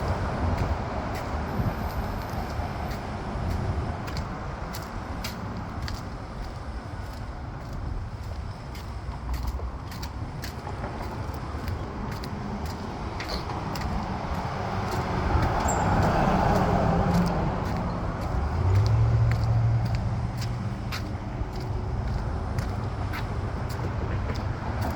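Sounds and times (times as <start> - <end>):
low engine hum: 0.0 - 24.9
vehicle passing: 0.0 - 24.9.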